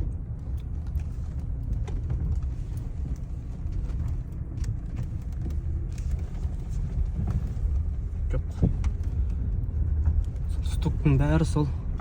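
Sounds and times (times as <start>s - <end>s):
tyre and road rumble: 0.0s - 12.0s.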